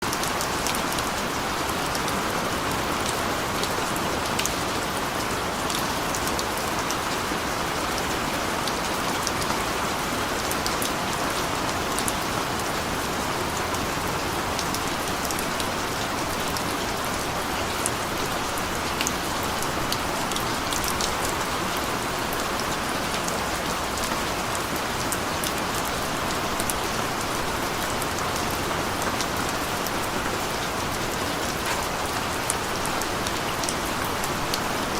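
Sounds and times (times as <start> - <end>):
rain falling on a street: 0.0 - 34.9
raindrops ticking on hard surfaces: 0.0 - 34.9.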